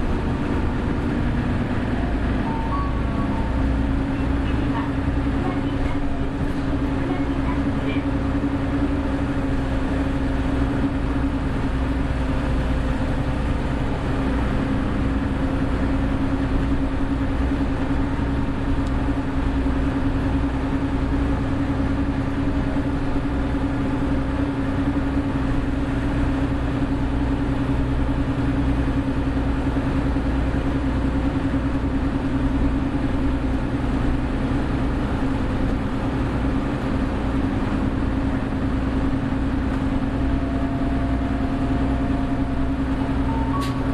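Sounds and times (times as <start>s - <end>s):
bus drivetrain drone: 0.0s - 43.9s.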